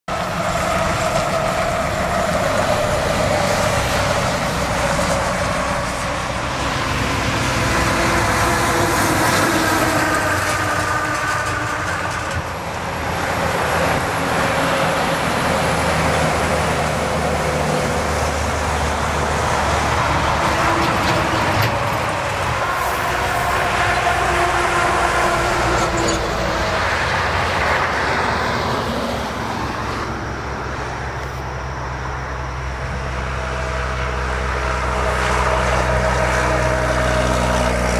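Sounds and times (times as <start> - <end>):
trucks and bus passing: 0.0 - 37.9.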